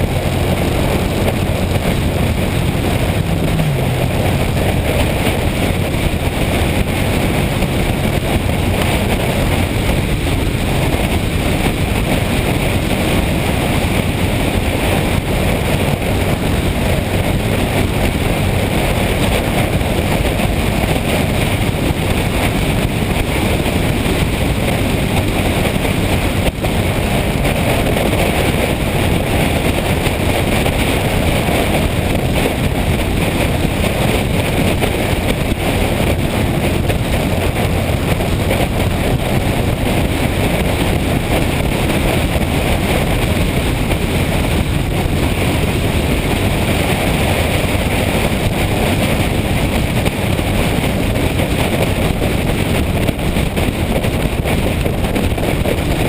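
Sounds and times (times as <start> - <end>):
motorcycle engine droning: 0.0 - 56.0
road noise: 0.0 - 56.0
wind rushing over microphone: 0.0 - 56.0.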